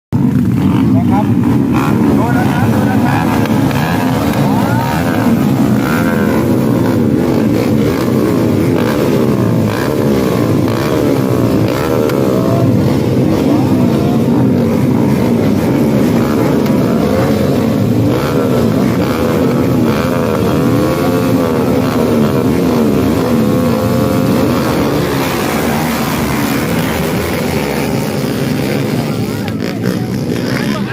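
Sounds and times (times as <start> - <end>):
small motorcycle engines racing: 0.2 - 30.9.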